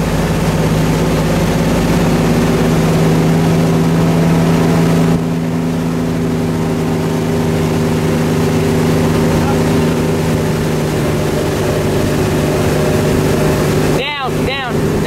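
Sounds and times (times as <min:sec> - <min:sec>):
boat engine humming: 0:00.0 - 0:15.0
rushing water of wake: 0:00.0 - 0:15.0.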